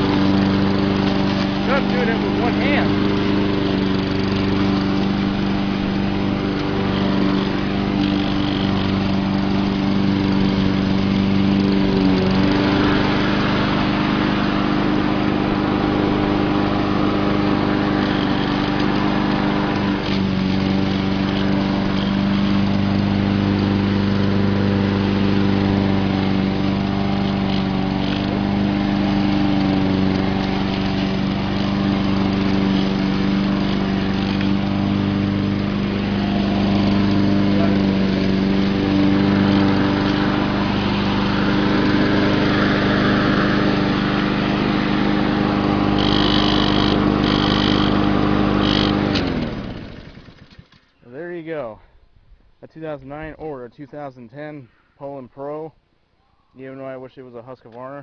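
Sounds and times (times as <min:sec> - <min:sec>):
lawn mower engine running: 0:00.0 - 0:53.4.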